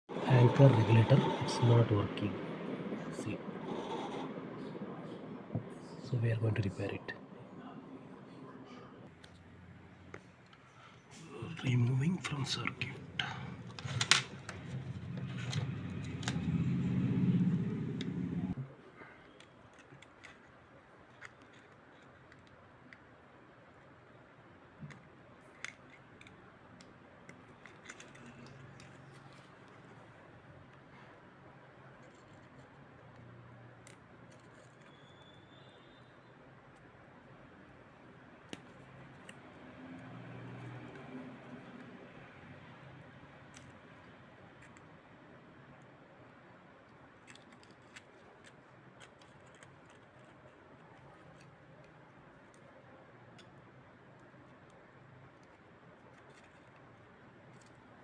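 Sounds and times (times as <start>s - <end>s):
faint low hum: 0.1s - 58.0s.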